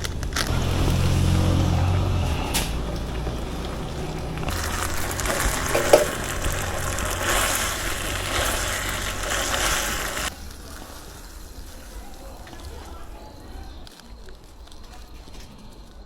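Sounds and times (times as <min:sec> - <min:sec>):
food crackling and rustling: 0:00.0 - 0:16.0.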